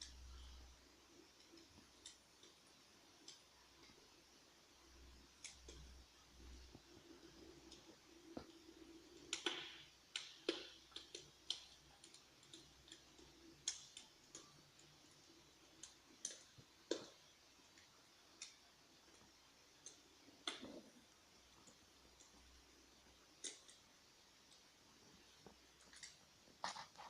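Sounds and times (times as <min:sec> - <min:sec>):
electric fireplace crackles: 0:00.0 - 0:27.0
faint steady hum: 0:00.0 - 0:27.0.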